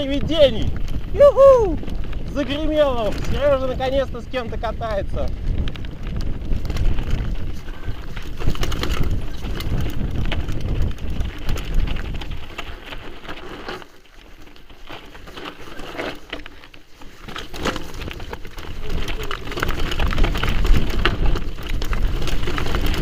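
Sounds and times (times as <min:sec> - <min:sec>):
wind buffeting microphone: 0:00.0 - 0:13.4, 0:17.6 - 0:23.0
bike clicks and rattles: 0:00.0 - 0:23.0.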